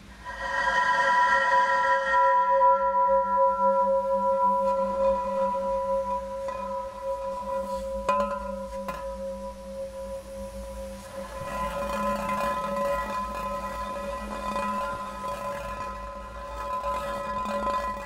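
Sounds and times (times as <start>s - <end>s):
bell-like ringing tones: 0.2s - 18.0s.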